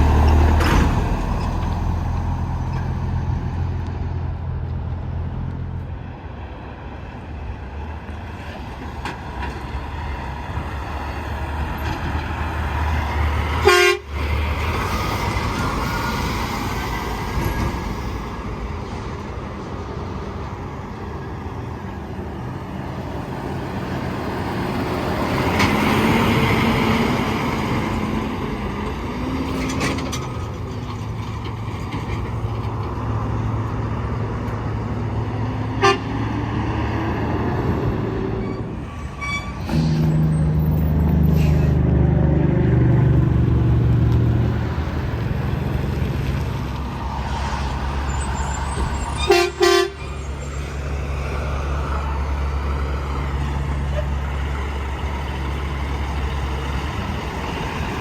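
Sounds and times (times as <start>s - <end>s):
trucks passing on highway: 0.0s - 58.0s.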